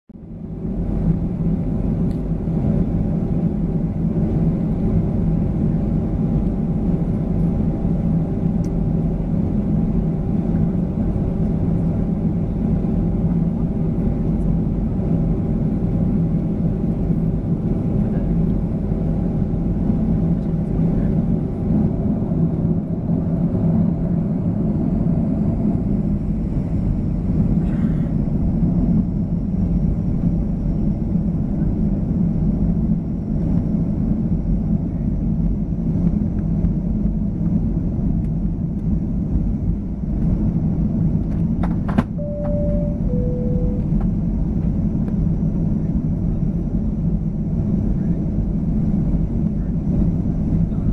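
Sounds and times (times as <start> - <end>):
airplane cabin rumble: 0.1 - 50.9
jet engines humming at low thrust: 0.1 - 50.9.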